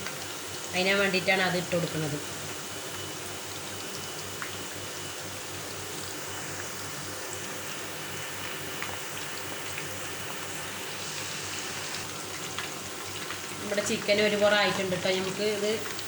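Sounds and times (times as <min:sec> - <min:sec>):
deep-frying oil sizzling: 0:00.0 - 0:16.0.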